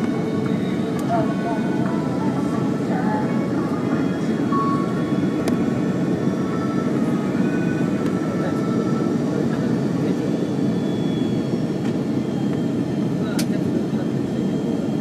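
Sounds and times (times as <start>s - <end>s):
airplane cabin engine and airflow noise: 0.0s - 15.0s.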